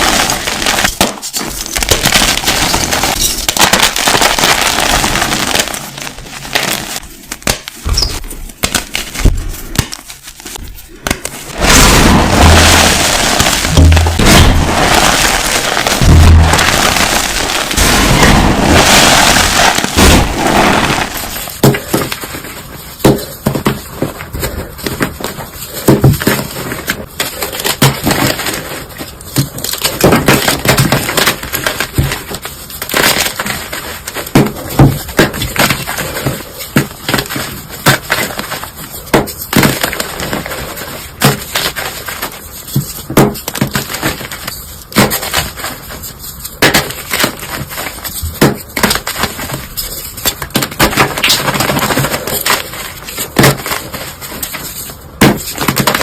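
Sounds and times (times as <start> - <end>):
brittle material crushing: 0.0 - 56.0.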